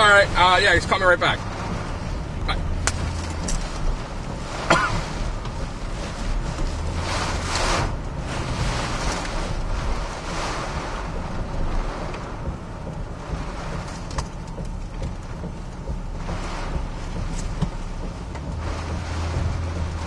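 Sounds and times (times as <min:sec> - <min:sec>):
driving rain: 0:00.0 - 0:20.0
strong wind gusting: 0:00.0 - 0:20.0.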